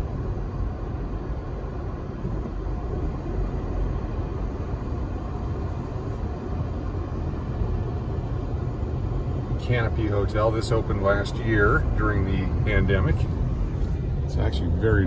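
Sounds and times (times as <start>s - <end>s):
car engine and tyre noise inside cabin: 0.0s - 15.0s.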